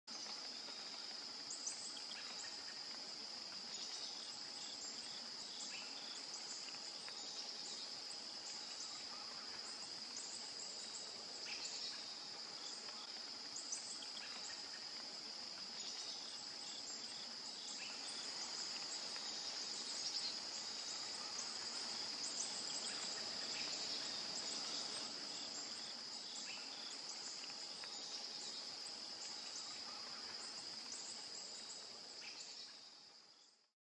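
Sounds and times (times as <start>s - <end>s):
insects trilling: 0.1s - 33.6s.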